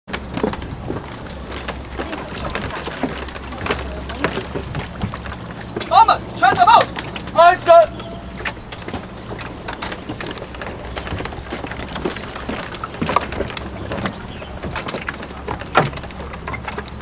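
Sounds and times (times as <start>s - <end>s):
low steady hum: 0.1s - 17.0s
oars knocking in rowlocks: 0.1s - 17.0s
water splashing: 0.1s - 17.0s.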